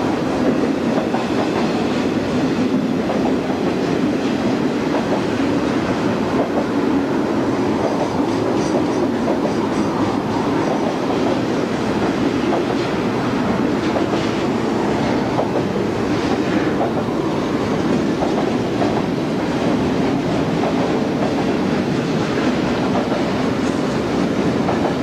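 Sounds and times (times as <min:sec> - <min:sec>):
train wheels rolling on rails: 0:00.0 - 0:25.0.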